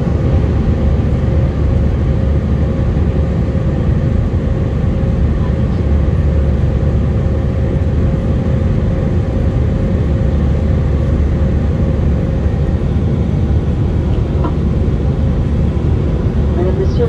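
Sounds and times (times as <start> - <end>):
jet engines rumbling: 0.0 - 17.0
steady hum: 0.0 - 17.0.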